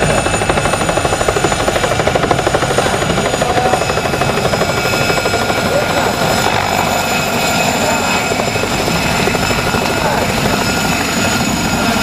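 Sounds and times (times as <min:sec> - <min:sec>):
helicopter rotor chop: 0:00.0 - 0:12.0
turbine engine whine: 0:00.0 - 0:12.0.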